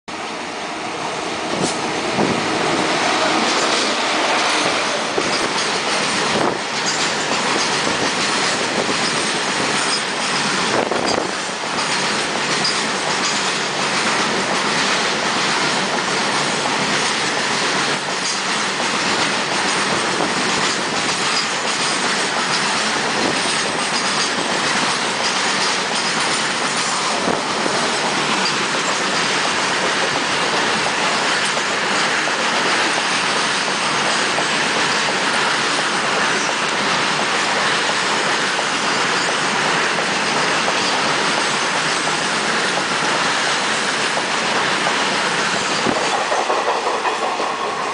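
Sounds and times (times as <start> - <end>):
train wheels rumbling on rails: 0.1 - 47.9
clickety-clack over rail joints: 1.4 - 47.9.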